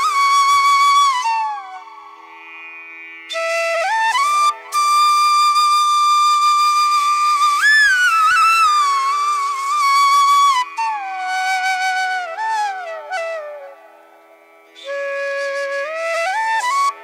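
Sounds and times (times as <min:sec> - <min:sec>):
solo flute sliding notes: 0:00.0 - 0:17.0.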